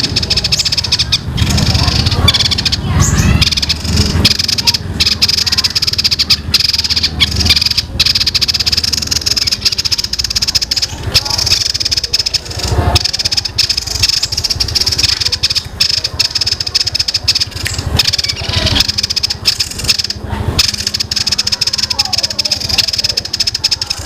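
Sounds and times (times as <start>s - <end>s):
songbird trilling: 0.0s - 24.0s.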